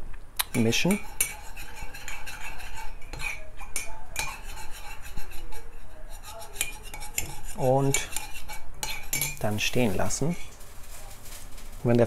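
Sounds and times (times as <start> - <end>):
spoon stirring in mug: 0.4 - 10.5.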